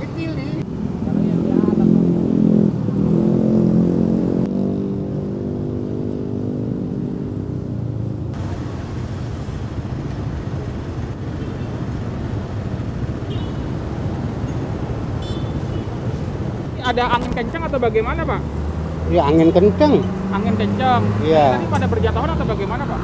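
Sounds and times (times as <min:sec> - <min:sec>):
road traffic rumble: 0:00.0 - 0:23.0
vehicle engine humming: 0:00.0 - 0:23.0.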